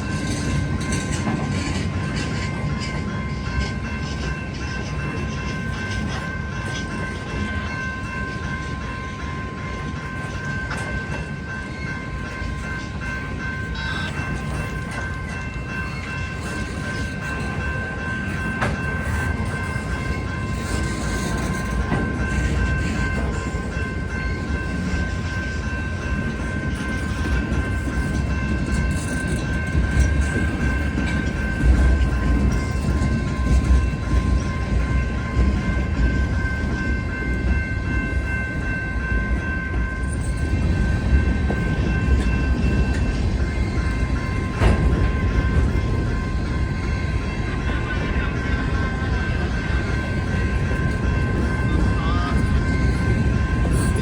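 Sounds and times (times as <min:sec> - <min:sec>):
train rolling past: 0:00.0 - 0:54.0.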